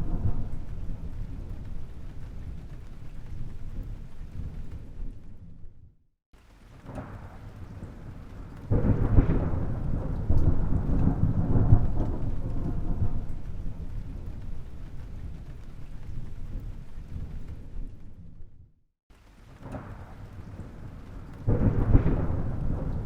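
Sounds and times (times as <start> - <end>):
thunderclap cracking and rumbling: 0.0 - 6.0, 6.6 - 18.7, 19.3 - 23.0.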